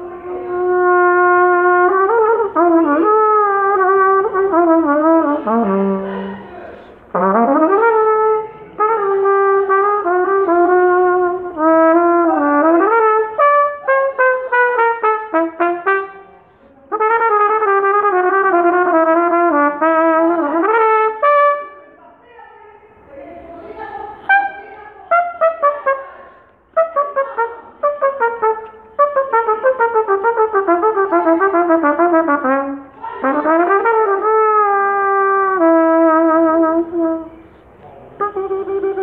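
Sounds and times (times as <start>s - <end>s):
solo trumpet bluesy line: 0.0s - 22.0s, 24.2s - 39.0s.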